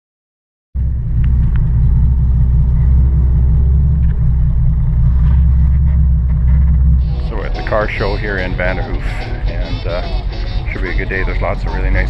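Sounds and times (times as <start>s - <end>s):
car engine low rumble: 0.8s - 12.0s.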